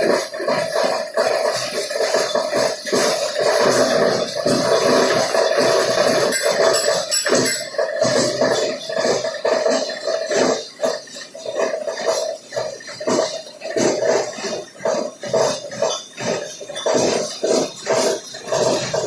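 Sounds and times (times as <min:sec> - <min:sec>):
shredding machine running: 0:00.0 - 0:19.0.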